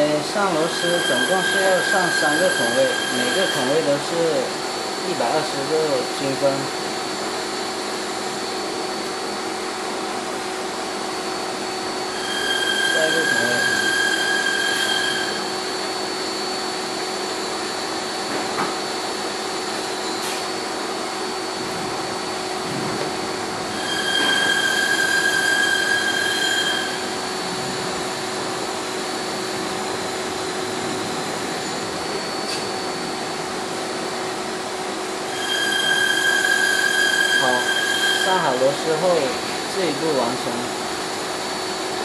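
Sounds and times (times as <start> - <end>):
workshop hum and hiss: 0.0 - 42.0.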